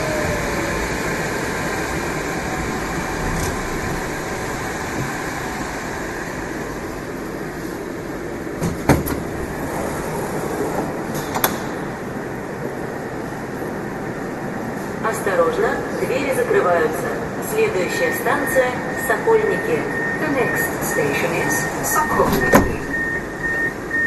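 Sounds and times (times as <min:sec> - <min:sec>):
train rail rumble: 0:00.0 - 0:24.0.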